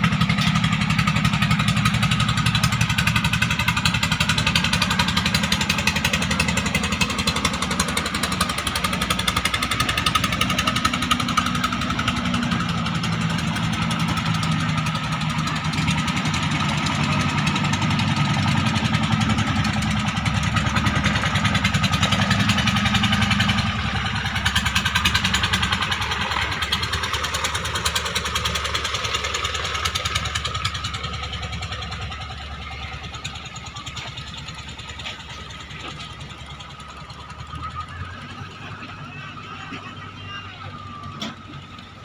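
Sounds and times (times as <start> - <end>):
boat engine chugging: 0.0 - 42.0.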